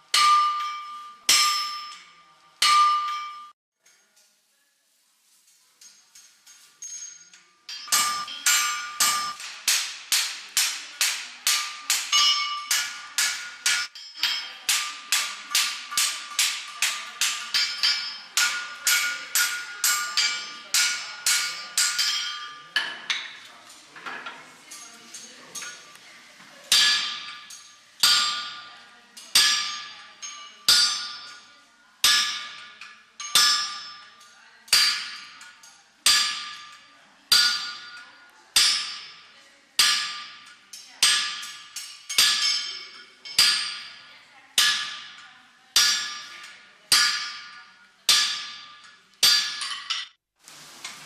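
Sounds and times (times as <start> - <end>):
hammer striking iron on anvil: 0.1 - 3.5, 7.7 - 23.4, 26.7 - 44.0, 44.6 - 45.2, 45.8 - 50.1.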